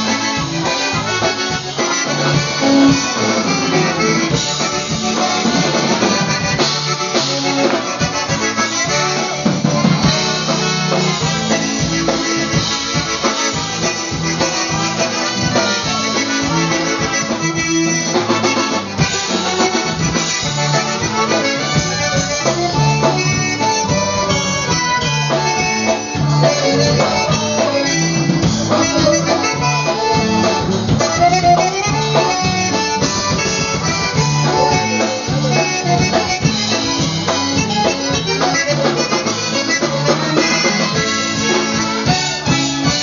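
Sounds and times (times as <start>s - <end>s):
bass and drum beat: 0.0s - 43.0s
polka band playing: 0.0s - 43.0s
trumpets: 0.0s - 43.0s.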